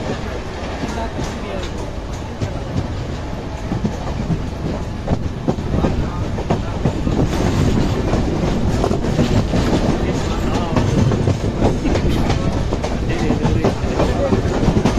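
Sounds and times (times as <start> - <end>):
train rumble: 0.0 - 14.9
train wheels clattering over joints: 0.0 - 14.9.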